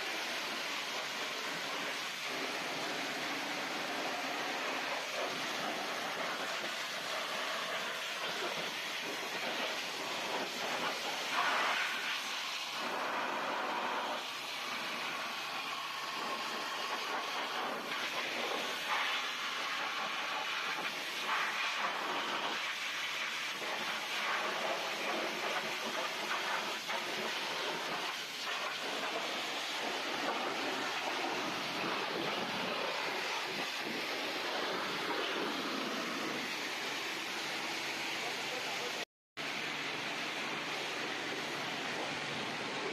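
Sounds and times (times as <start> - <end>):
high-pressure water spray on car: 0.0 - 42.9.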